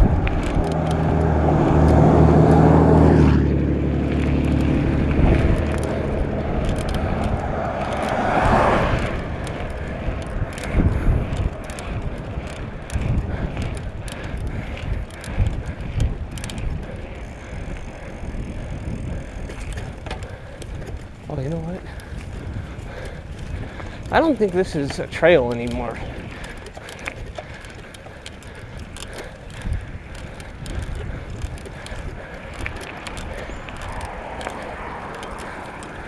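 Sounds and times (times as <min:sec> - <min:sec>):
bicycle rattling clicks: 0:00.0 - 0:36.0
road and wind noise: 0:00.0 - 0:36.0
vehicle passing by: 0:00.0 - 0:36.0.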